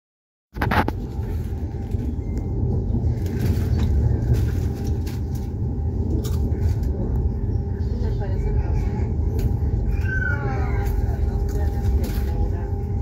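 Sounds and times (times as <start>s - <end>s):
train rumble inside carriage: 0.6s - 13.0s.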